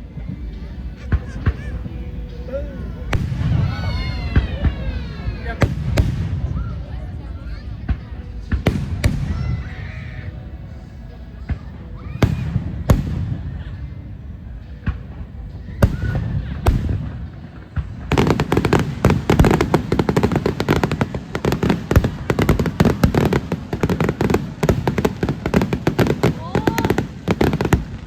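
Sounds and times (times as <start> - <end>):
firework bangs: 0.0 - 28.0
rapid firework crackling: 0.0 - 28.0.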